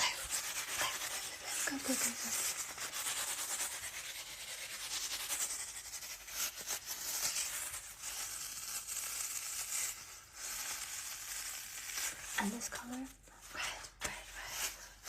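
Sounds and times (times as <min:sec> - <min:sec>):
scratching on a juggling ball: 0:00.0 - 0:15.0.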